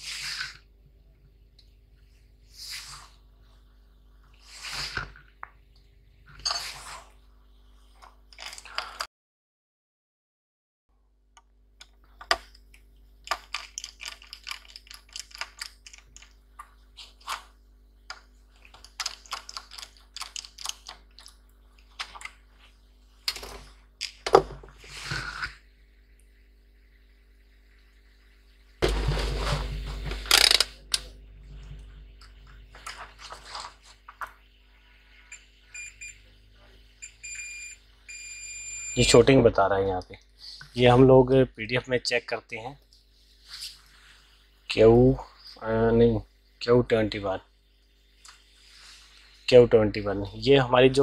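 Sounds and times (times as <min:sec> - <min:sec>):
faint electrical hum: 0:00.0 - 0:09.1, 0:10.9 - 0:51.0.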